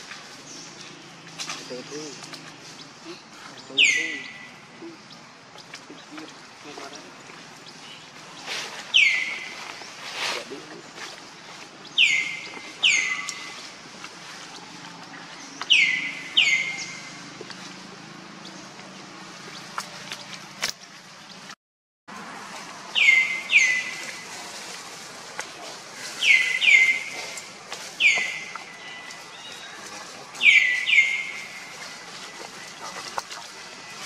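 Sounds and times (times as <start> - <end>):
steady outdoor hiss: 0.0 - 34.0.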